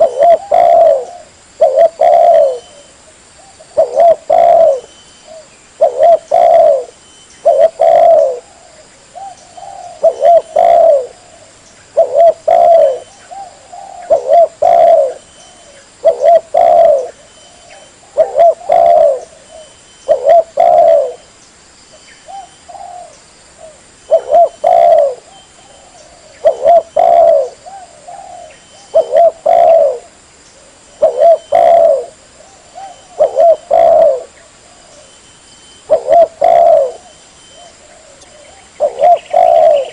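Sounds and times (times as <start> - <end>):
dove cooing: 0.0 - 21.3, 22.2 - 35.1, 35.8 - 39.9.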